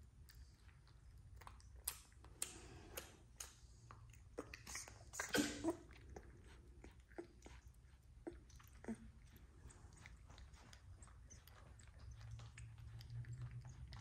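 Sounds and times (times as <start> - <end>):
puppy suckling wet smacks: 0.0 - 14.0.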